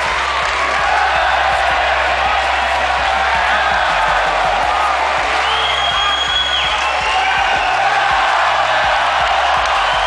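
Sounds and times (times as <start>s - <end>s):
crowd noise in an arena: 0.0s - 10.0s
loud music with steady beat: 0.0s - 10.0s.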